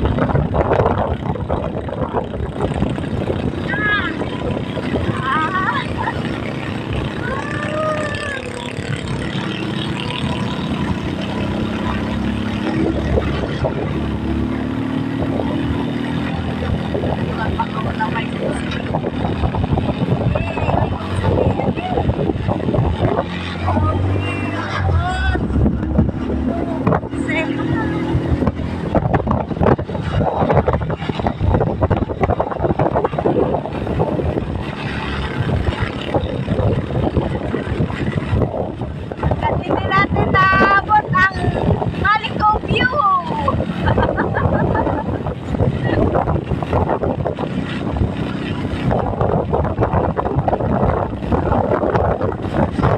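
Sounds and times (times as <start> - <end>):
road and wind noise: 0.0 - 52.9
vehicle engine running: 0.0 - 52.9.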